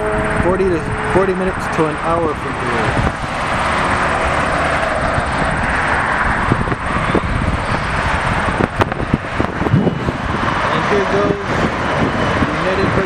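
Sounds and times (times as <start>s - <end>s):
jet engines whooshing: 0.0s - 13.0s.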